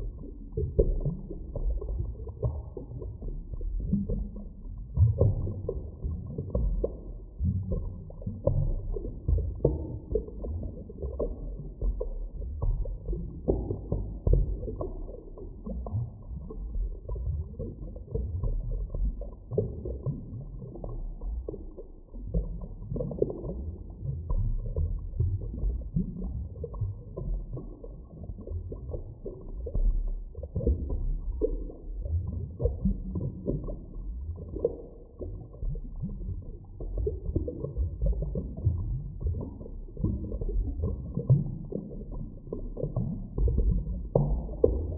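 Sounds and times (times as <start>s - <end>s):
gurgling bubbles: 0.0s - 44.9s
muffled underwater rumble: 0.0s - 44.9s.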